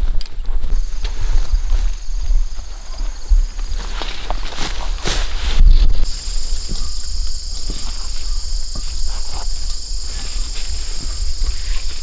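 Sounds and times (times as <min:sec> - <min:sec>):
insects chirping: 0:00.7 - 0:12.0.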